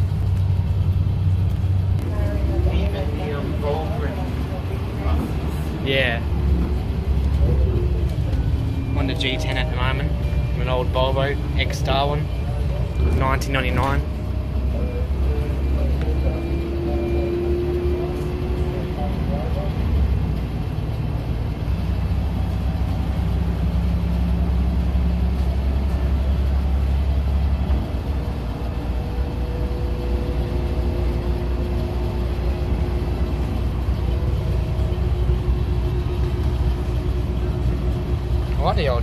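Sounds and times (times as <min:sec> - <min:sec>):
bus diesel engine drone: 0:00.0 - 0:39.0
road noise: 0:00.0 - 0:39.0.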